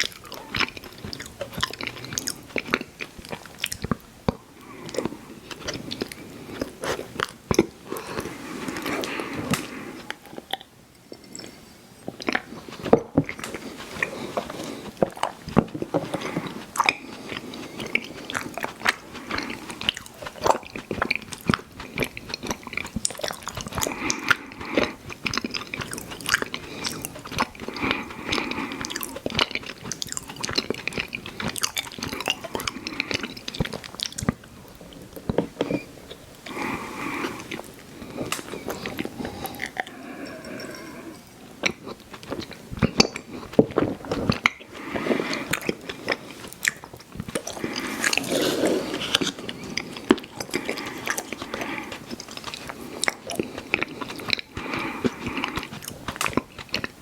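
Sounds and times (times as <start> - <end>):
person chewing chewy candies: 0.0 - 57.0.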